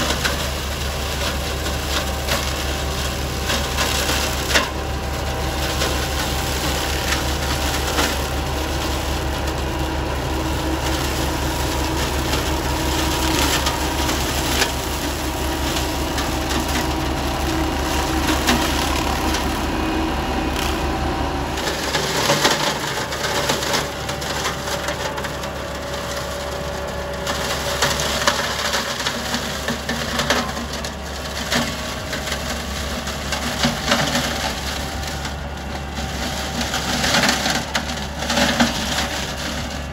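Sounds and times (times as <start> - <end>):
flail head shredding branches: 0.0 - 39.9
low machine hum: 0.0 - 39.9.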